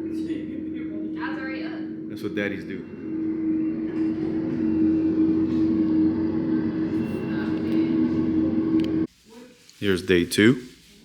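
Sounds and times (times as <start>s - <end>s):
digging machine engine humming: 0.0s - 9.1s.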